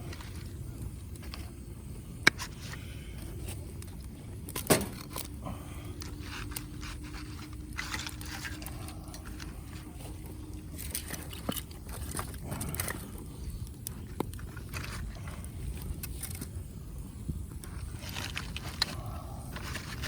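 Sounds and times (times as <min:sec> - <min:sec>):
fire crackling and popping: 0:00.0 - 0:20.0
low rumble of fire: 0:00.0 - 0:20.0.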